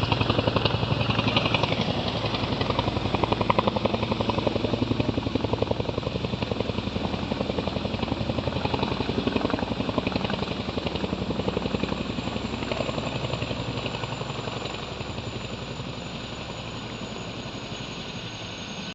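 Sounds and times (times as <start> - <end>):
helicopter rotor beating: 0.0 - 18.9.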